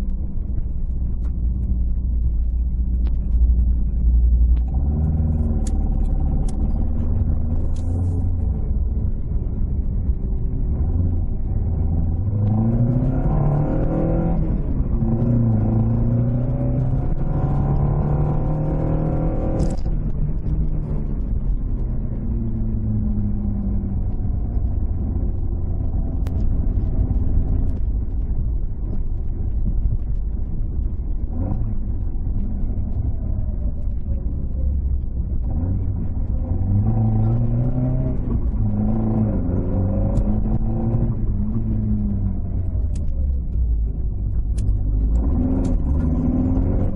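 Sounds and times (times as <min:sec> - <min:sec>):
car engine accelerating hard: 0:00.0 - 0:46.9.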